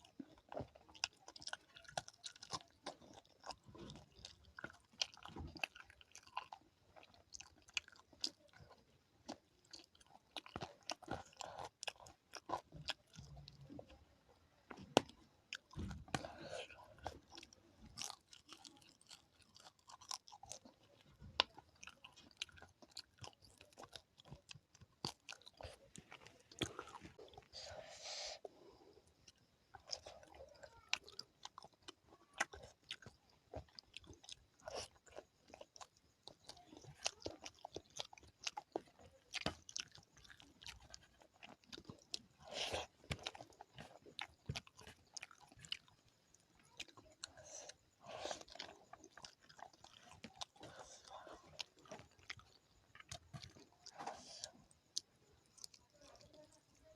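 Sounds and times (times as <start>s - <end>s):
person chewing and crunching food: 0.0s - 56.9s.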